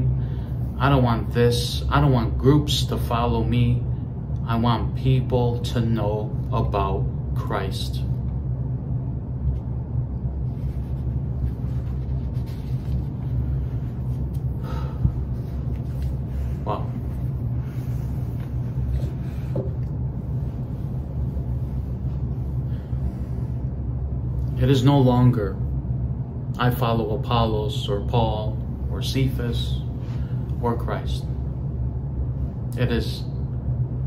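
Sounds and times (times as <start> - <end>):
low room hum: 0.0 - 34.0.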